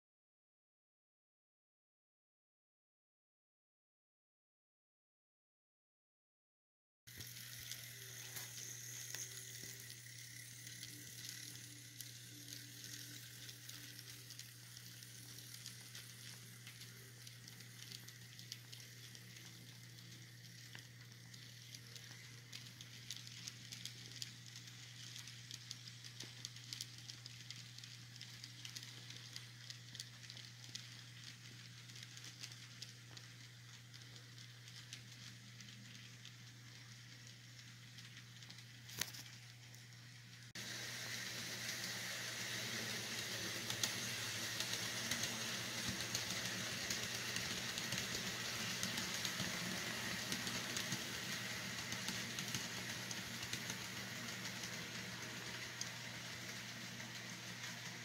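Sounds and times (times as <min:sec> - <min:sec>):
model train wheels ticking: 0:07.1 - 0:39.9, 0:40.5 - 0:58.0
faint steady hiss: 0:07.1 - 0:58.0
steady low hum: 0:07.2 - 0:58.0.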